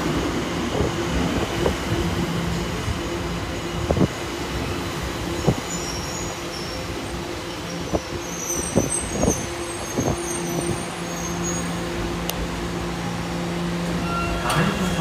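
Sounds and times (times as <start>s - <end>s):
train low hum: 0.0s - 15.0s.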